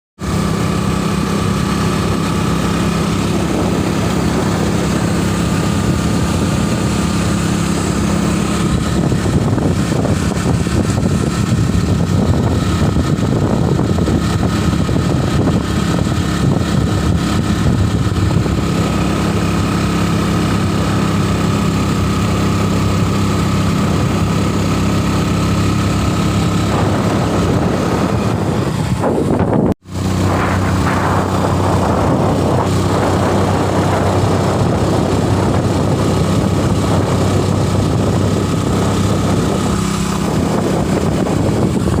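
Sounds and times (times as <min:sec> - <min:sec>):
road and wind noise: 0:00.2 - 0:42.0
vehicle engine running: 0:00.2 - 0:42.0.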